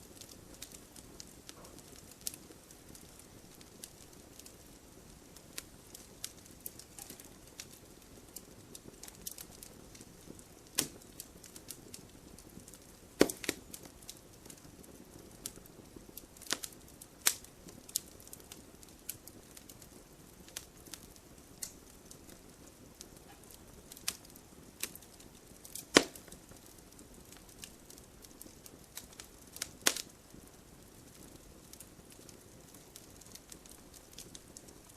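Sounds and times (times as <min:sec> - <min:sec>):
sharp pops from burning logs: 0:00.0 - 0:34.9
wood fire hissing and crackling: 0:00.0 - 0:34.9.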